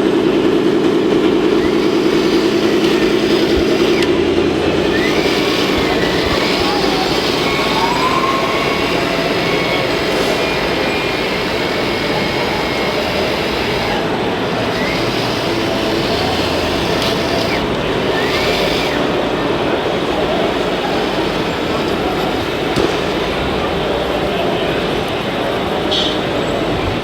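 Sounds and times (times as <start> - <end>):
small electric motors and pumps: 1.2 - 23.7
rising motor whines: 1.4 - 23.2.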